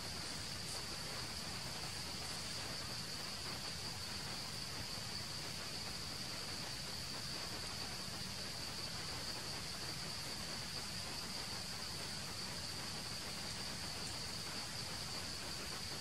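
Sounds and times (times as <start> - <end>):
faint forest background hiss: 0.0 - 16.0
insect chorus drone: 0.0 - 16.0.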